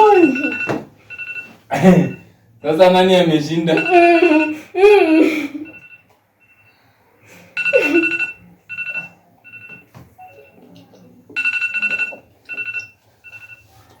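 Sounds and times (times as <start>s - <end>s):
electronic ringtone beeping: 0.0s - 4.7s, 5.6s - 6.9s, 7.5s - 10.7s, 11.4s - 13.8s.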